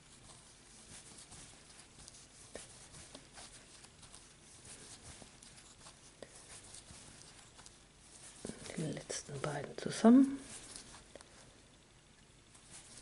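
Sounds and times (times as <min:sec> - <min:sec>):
yarn rustling: 0:00.0 - 0:11.6, 0:12.4 - 0:13.0.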